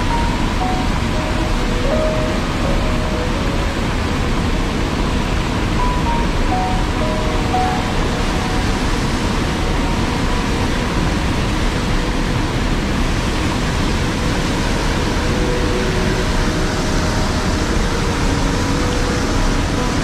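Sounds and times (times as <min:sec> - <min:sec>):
stream water rushing over rocks: 0:00.0 - 0:20.0.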